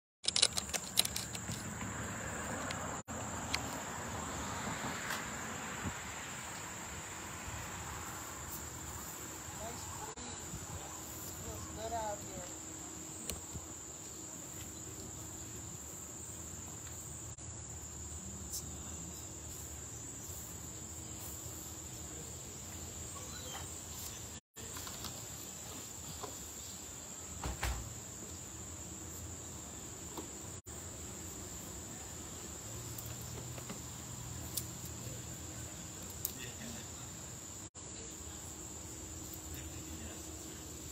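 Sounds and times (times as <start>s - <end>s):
faint outdoor background: 0.2s - 40.9s
insects droning: 0.2s - 40.9s.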